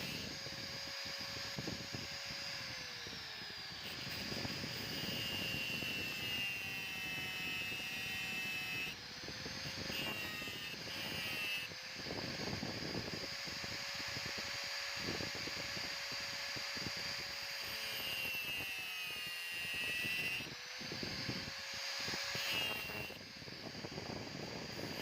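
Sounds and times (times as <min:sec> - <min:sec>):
electric grinder on steel: 0:00.0 - 0:25.0.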